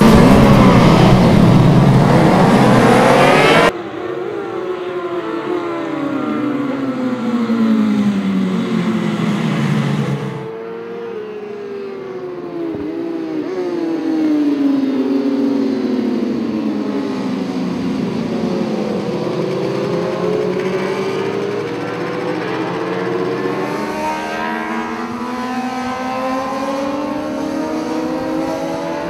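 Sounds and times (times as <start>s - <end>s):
racing motorcycles passing at speed: 0.0s - 29.0s.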